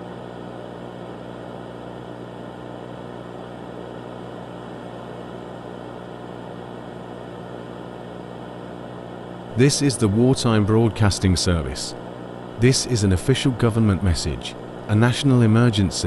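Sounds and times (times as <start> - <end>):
low electronic hum: 0.0 - 16.0.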